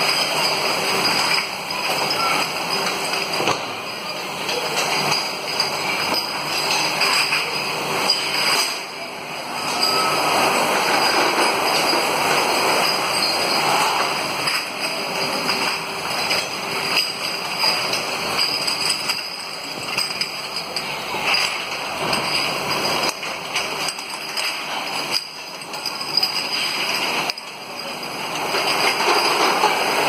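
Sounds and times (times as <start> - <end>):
bottle washing machine rattling: 0.0 - 30.0
glass bottles clicking and knocking: 0.0 - 30.0.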